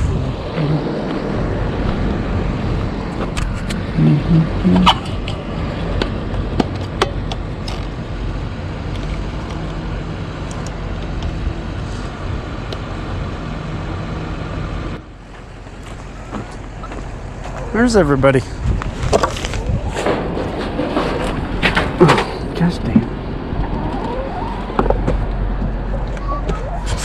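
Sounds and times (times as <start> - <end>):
low rumble: 0.0 - 27.0.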